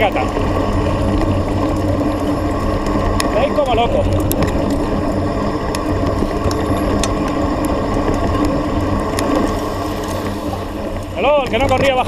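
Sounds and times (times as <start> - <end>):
bike tyre noise on dirt: 0.0 - 12.0
drivetrain rattle and clicking: 0.0 - 12.0.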